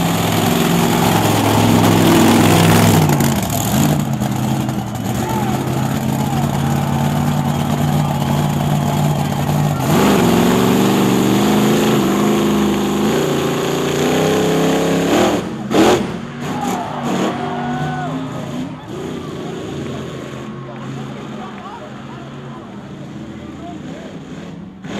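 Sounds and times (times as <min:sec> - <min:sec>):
truck crunching a crushed car: 0:00.0 - 0:21.6
monster truck engine revving: 0:00.0 - 0:24.9.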